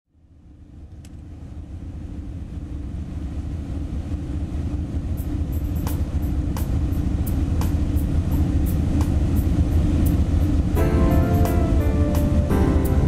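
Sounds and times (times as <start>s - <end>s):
ship engine droning: 0.3s - 13.0s.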